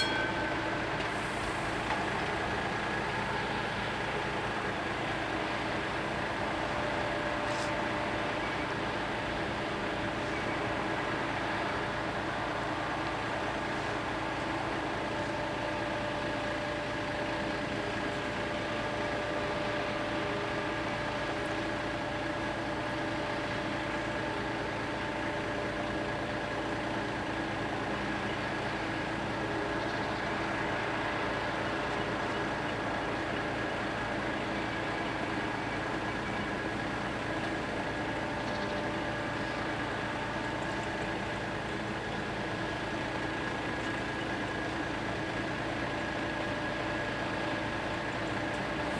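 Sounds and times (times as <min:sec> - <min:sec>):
engine humming steadily: 0:00.0 - 0:48.9.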